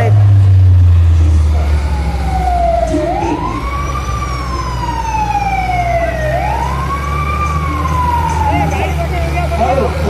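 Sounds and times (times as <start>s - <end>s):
siren wailing: 1.5s - 10.0s.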